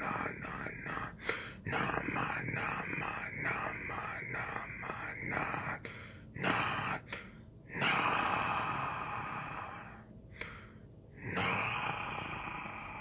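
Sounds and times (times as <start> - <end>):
person breathing heavily: 0.0 - 13.0.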